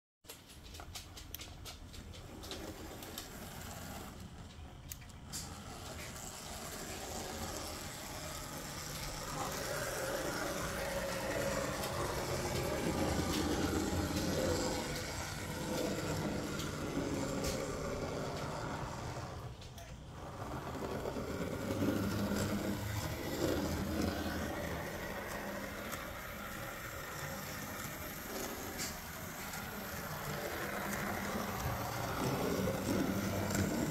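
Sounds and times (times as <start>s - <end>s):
model train motor whirring: 2.2s - 33.9s.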